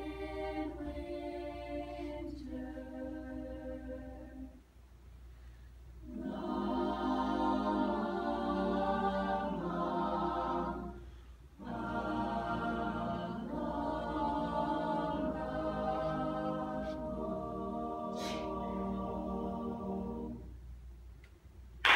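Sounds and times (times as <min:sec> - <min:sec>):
choir singing held chords: 0:00.0 - 0:04.6, 0:06.0 - 0:20.6.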